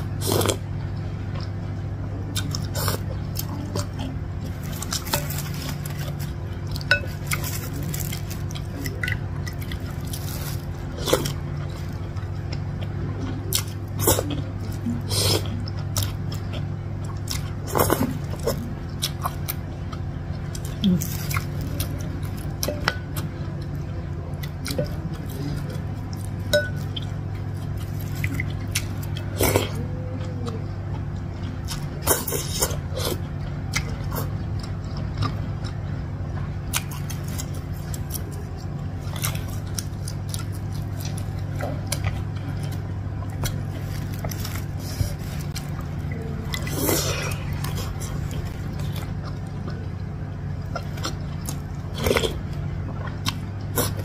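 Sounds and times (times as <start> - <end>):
steady low hum: 0.0 - 54.0
chewing: 2.3 - 54.0.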